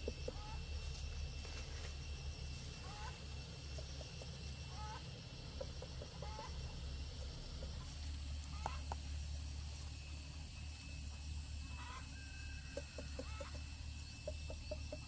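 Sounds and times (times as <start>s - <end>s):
chickens clucking: 0.0s - 1.6s, 2.5s - 15.0s
steady low rumble: 0.0s - 12.2s.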